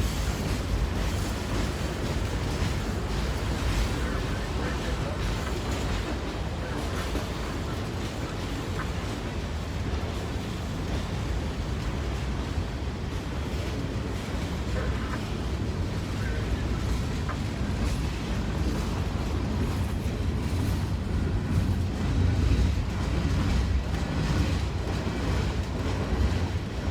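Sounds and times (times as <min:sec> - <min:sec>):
freight train rumbling past: 0:00.0 - 0:26.9.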